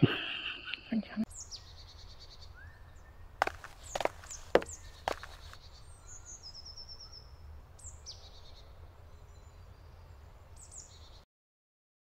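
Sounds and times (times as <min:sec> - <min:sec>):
songbirds chirping: 0:00.6 - 0:11.2.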